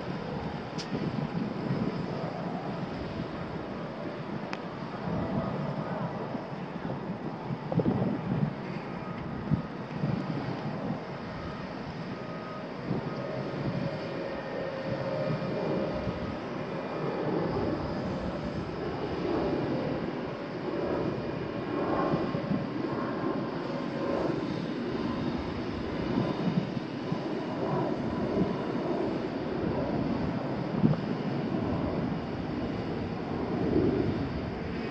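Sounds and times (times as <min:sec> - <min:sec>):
faint steady whine: 0:00.0 - 0:34.9.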